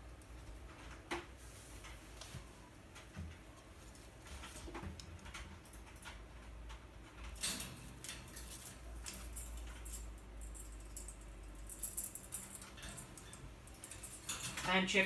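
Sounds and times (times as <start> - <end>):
parakeet claws and beak on cage bars: 0.1 - 15.0.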